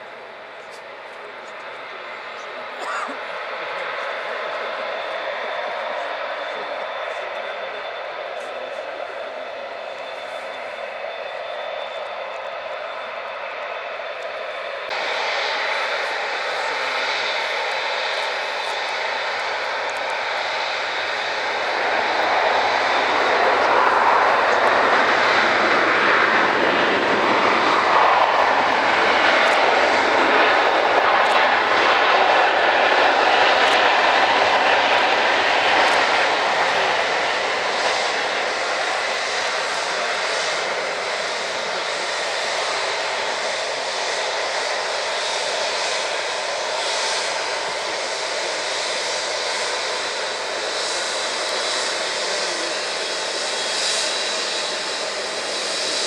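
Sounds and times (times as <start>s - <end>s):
airliner engines rushing: 0.0s - 56.0s.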